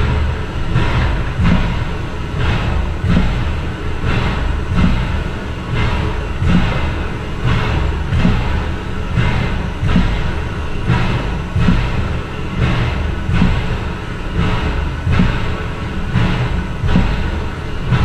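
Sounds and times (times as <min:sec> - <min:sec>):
locomotive low rumble: 0:00.0 - 0:18.0
rhythmic steam chuff: 0:00.0 - 0:18.0.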